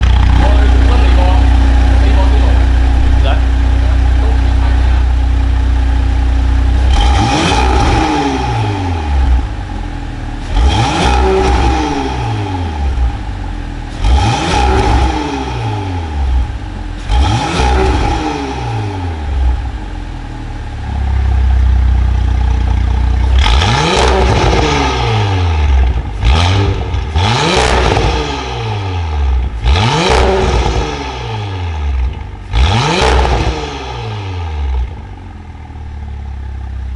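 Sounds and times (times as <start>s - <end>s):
car engine revving in blips: 0.0s - 36.9s.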